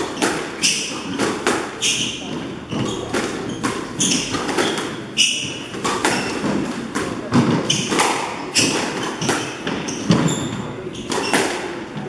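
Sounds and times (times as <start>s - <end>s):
shoes squeaking on wooden floor: 0.0s - 12.0s
squash ball hits: 0.0s - 12.0s.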